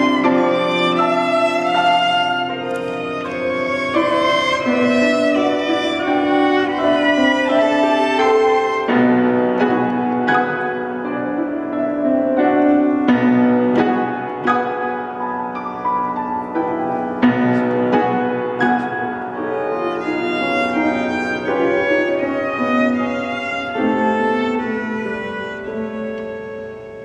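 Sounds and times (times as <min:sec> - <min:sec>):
cello bowing: 0:00.0 - 0:27.0
piano notes: 0:00.0 - 0:27.0
violin bowing: 0:00.0 - 0:27.0.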